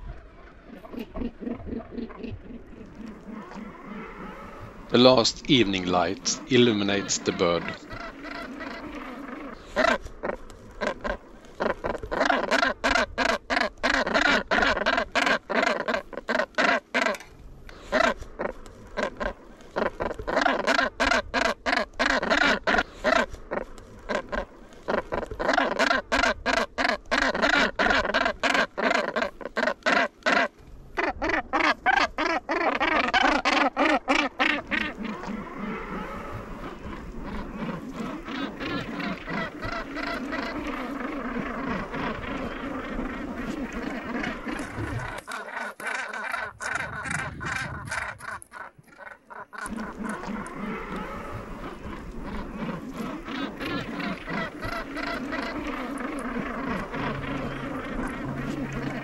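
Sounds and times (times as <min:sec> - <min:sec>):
gannets calling harshly: 0:00.9 - 0:59.0.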